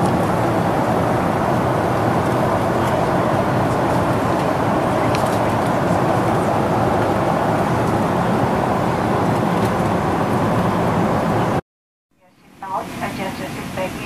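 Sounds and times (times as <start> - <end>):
airplane cabin noise: 0.0 - 11.6, 12.2 - 14.0
jet engines: 0.0 - 11.6, 12.4 - 14.0
rush of airflow: 0.0 - 11.6.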